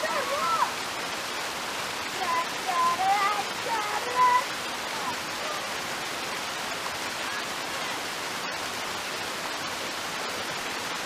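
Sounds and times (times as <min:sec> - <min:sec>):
creek flowing over stones: 0:00.0 - 0:11.0.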